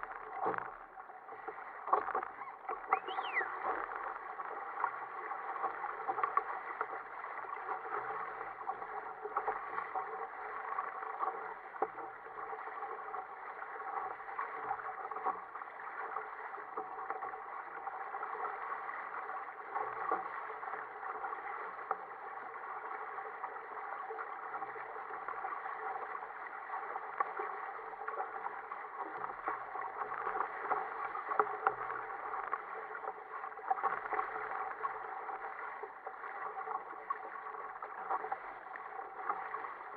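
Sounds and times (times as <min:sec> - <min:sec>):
water rushing along a kayak hull: 0:00.0 - 0:39.9.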